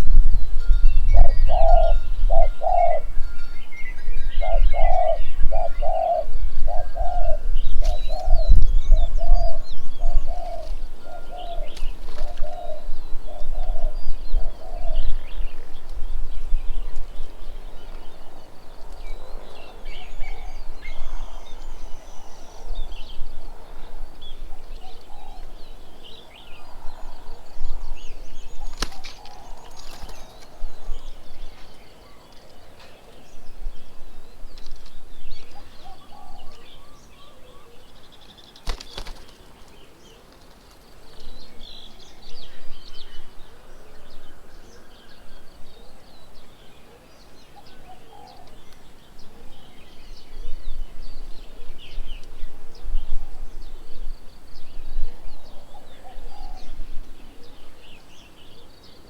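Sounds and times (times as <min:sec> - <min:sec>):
bird low hooting: 0:00.0 - 0:38.4, 0:41.0 - 0:59.0
small birds chirping: 0:00.0 - 0:59.0.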